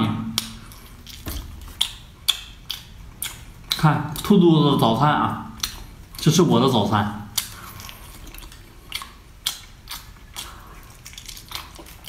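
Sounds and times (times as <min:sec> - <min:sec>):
mouth chewing with clicks and smacks: 0:00.3 - 0:04.9, 0:05.5 - 0:06.4, 0:07.3 - 0:12.0.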